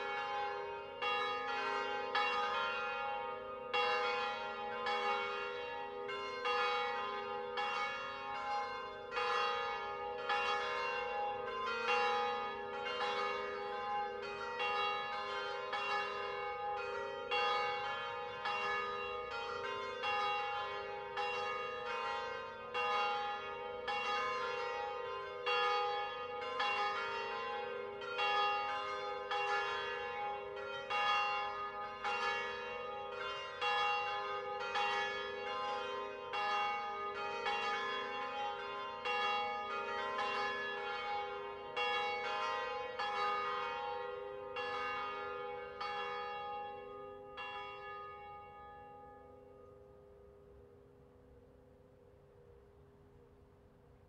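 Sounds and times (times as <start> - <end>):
church bells pealing: 0.0 - 50.2.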